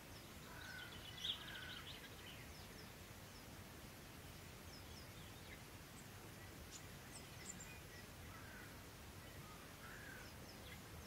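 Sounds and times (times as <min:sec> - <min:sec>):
faint birdsong: 0:00.0 - 0:11.0
low background noise: 0:00.0 - 0:11.0.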